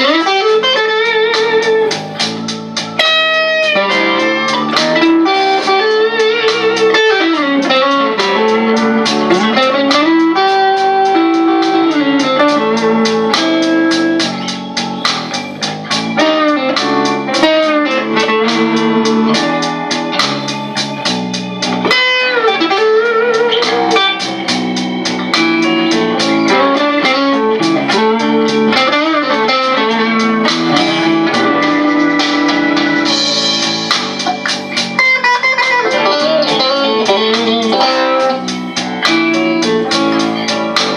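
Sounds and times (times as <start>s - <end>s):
blues backing track: 0.0s - 40.9s
overdriven electric guitar lead: 0.0s - 40.9s.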